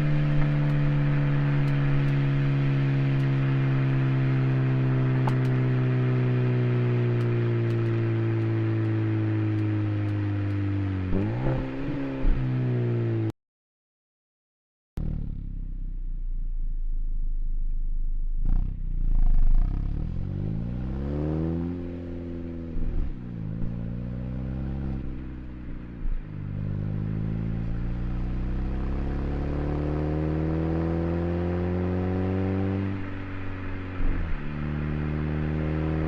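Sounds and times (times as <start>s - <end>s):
car engine accelerating: 0.0s - 13.3s, 15.0s - 36.0s.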